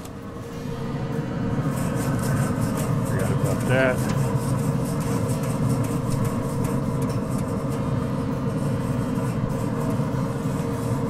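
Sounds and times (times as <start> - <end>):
steady low rumble: 0.1 - 11.0
grill brush scraping grate: 1.5 - 11.0.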